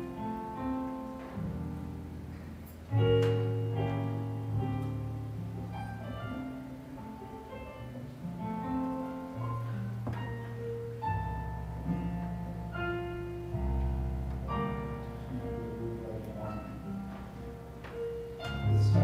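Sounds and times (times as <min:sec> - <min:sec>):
electric keyboard church music: 0:00.0 - 0:19.0.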